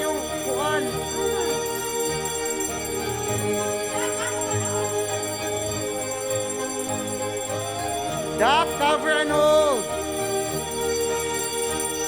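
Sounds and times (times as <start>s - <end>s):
alarm bell ringing: 0.0s - 12.0s.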